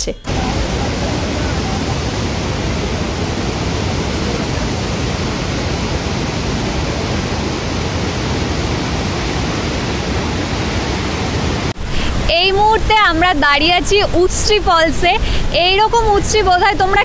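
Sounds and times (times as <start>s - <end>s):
waterfall rushing over rocks: 0.3s - 17.0s.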